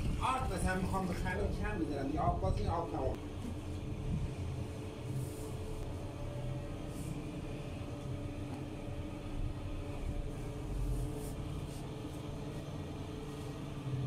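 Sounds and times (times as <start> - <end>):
low machine hum with tones: 0.0 - 14.0.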